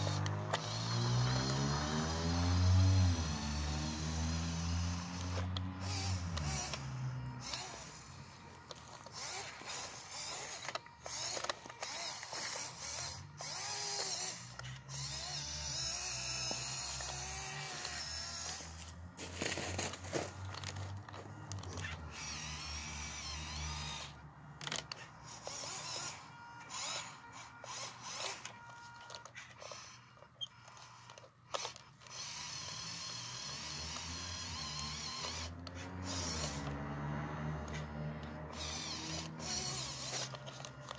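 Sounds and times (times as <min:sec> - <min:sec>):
toy truck electric motor whining: 0:00.0 - 0:40.9.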